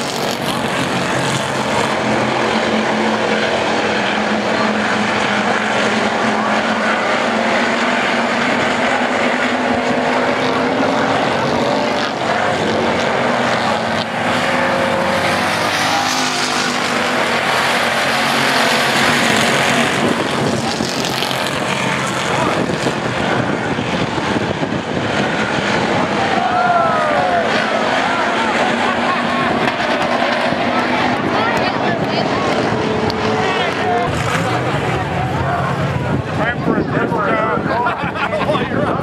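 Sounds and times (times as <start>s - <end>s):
race car engines droning: 0.0s - 39.0s.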